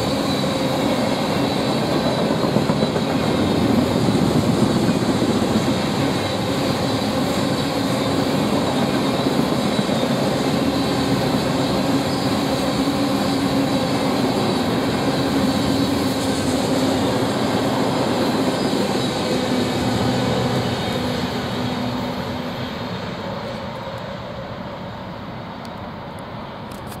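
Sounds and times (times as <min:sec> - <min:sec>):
freight train cars rolling past: 0:00.0 - 0:27.0.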